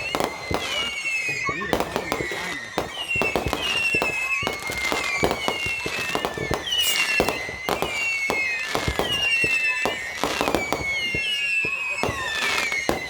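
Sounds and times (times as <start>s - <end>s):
fireworks bangs and crackles: 0.0s - 13.0s
fireworks whistles: 0.0s - 13.0s.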